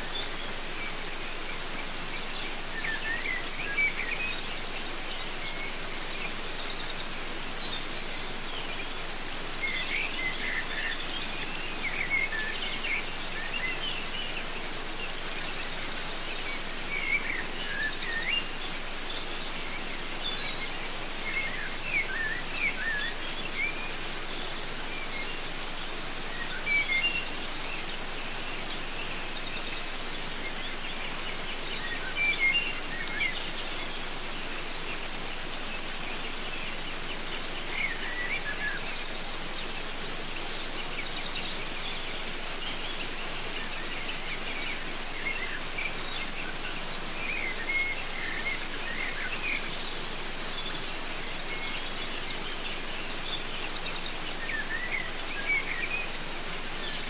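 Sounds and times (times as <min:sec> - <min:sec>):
birds singing: 0:00.0 - 0:57.0
waterfall rushing: 0:00.0 - 0:57.0.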